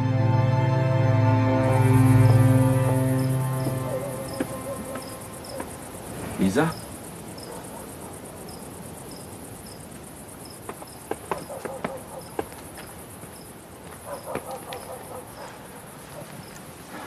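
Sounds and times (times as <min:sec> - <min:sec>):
crickets chirping: 0:00.5 - 0:17.0.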